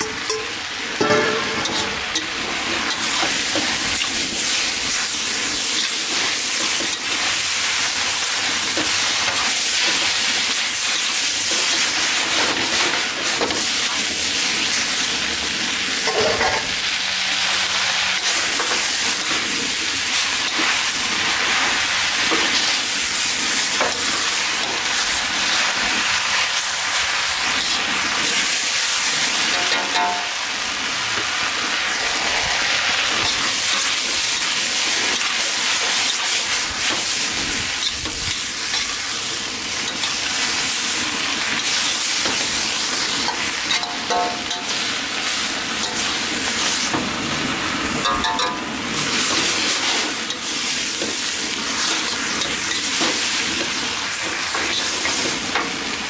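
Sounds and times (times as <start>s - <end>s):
noodles sizzling in a wok: 0.0s - 56.0s.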